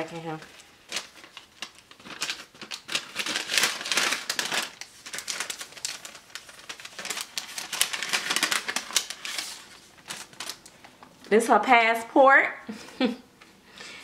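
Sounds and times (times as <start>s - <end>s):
packaging crinkling: 0.0s - 11.3s.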